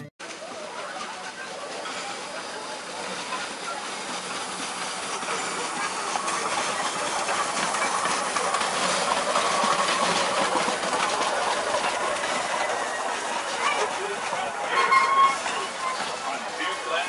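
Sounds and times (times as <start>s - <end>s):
wheels clicking on track: 0.0s - 17.0s
steam hissing: 0.2s - 17.0s.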